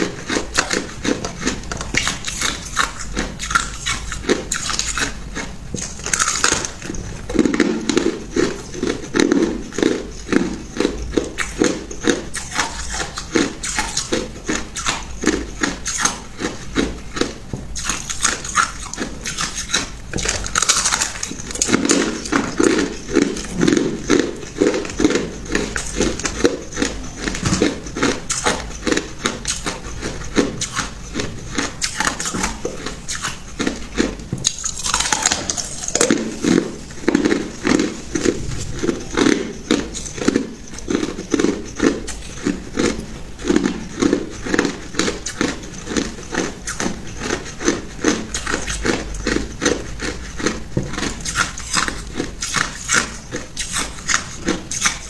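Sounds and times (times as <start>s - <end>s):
ice crunching between teeth: 0.0s - 55.0s.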